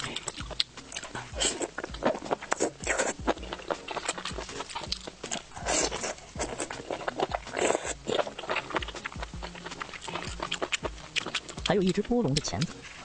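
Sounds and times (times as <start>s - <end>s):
noisy bites or slurps: 0.0s - 13.0s
wet chewing and mouth clicks: 0.0s - 13.0s.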